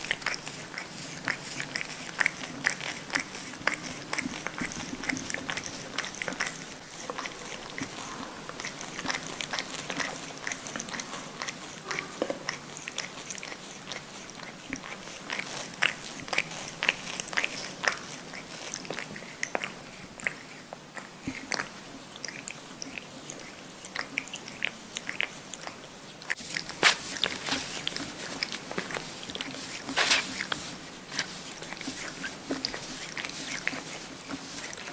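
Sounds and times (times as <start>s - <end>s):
cat licking paw: 0.0s - 34.9s.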